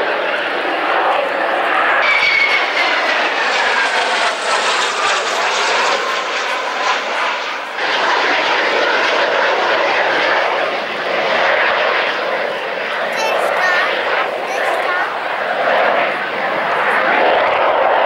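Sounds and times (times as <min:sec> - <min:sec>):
jet engines overhead: 0:00.0 - 0:18.0.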